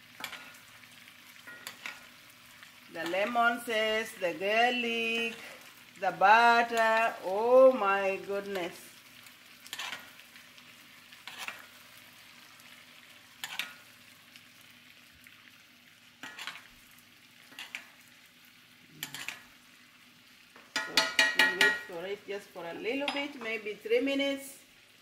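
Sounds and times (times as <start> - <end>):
faint sizzling in skillet: 0.0 - 25.0.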